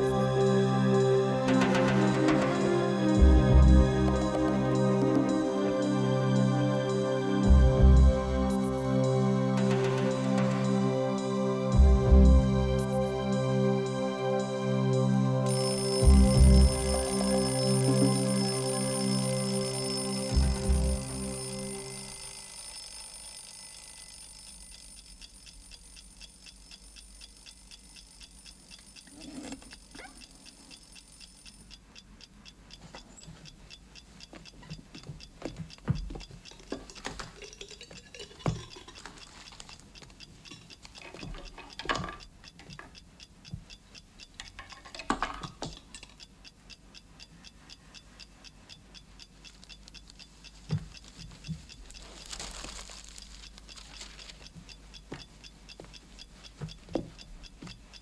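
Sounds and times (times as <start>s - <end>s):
clock ticking: 1.5s - 6.5s, 7.4s - 10.8s, 11.7s - 13.4s, 15.4s - 58.0s.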